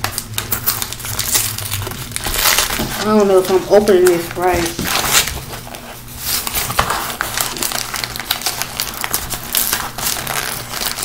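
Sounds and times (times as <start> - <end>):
paper envelope crinkling: 0.0 - 11.0.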